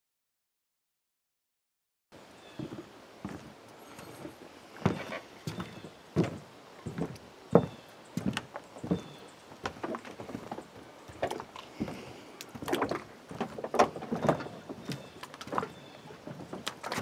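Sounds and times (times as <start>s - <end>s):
footsteps on wooden boards: 2.5s - 17.0s.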